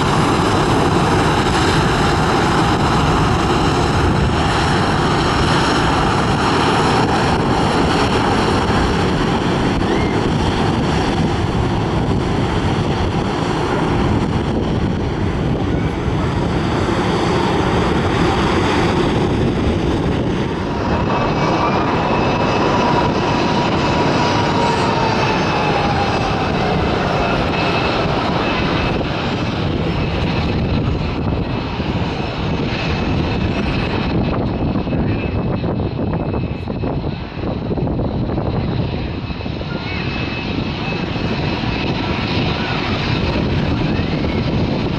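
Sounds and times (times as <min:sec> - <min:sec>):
high whining fan tones: 0:00.0 - 0:44.9
jet engines roaring: 0:00.0 - 0:44.9.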